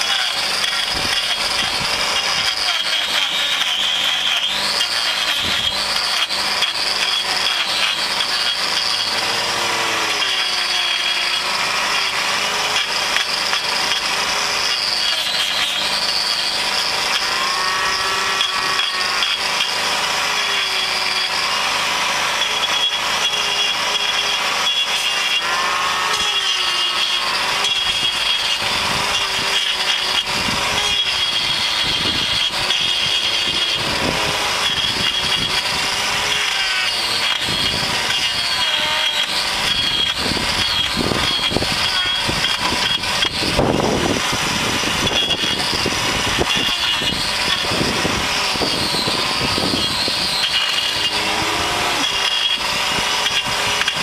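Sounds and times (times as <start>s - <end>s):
angle grinder grinding hoof: 0.0s - 54.0s.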